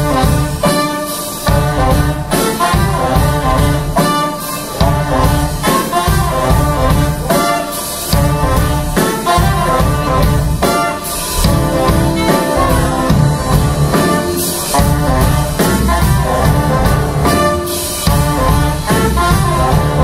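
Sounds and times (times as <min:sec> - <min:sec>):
band playing upbeat swing: 0:00.0 - 0:20.0
drums: 0:00.0 - 0:20.0
horn section: 0:00.0 - 0:20.0
keyboard: 0:00.0 - 0:20.0.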